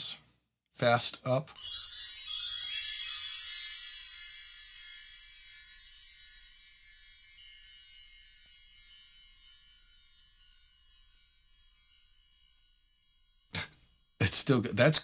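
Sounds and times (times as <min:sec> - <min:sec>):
bar chimes ringing: 0:01.6 - 0:14.9.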